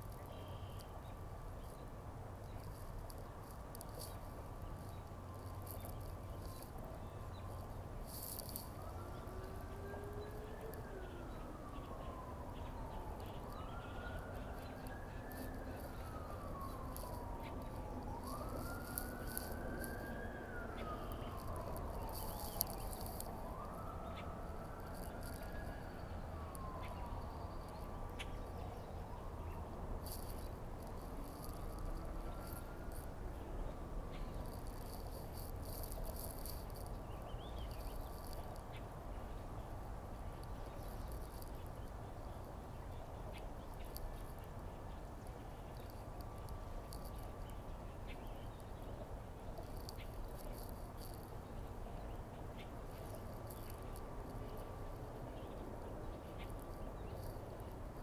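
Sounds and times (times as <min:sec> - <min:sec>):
distant siren wailing: 0:00.2 - 0:58.0.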